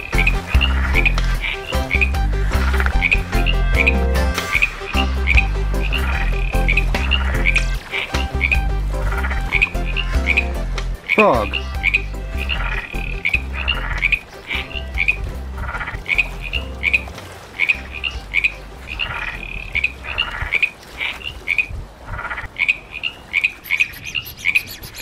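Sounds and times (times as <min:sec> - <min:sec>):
frog croaking: 0:00.0 - 0:25.0.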